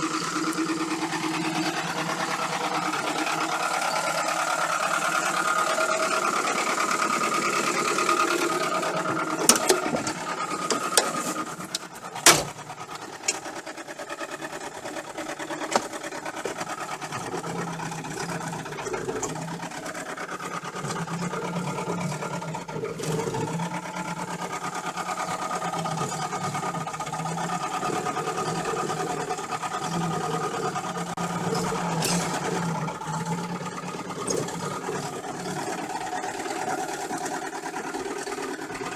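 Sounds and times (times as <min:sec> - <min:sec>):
engine running with knock: 0:00.0 - 0:38.9.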